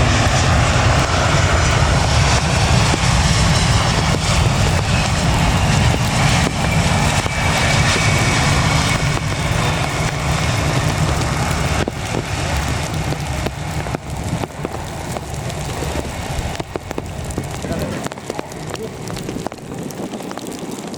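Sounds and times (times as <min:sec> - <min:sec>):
jet engines rumbling: 0:00.0 - 0:20.9.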